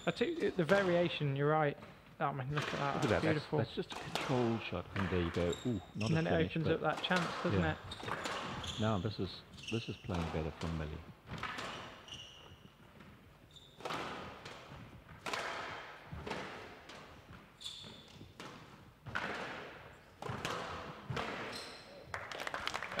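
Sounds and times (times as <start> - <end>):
squash ball hitting rackets and walls: 0.2 - 1.1, 1.8 - 9.0, 10.0 - 21.9
shoes squeaking on wooden floor: 1.8 - 15.2, 16.0 - 22.0.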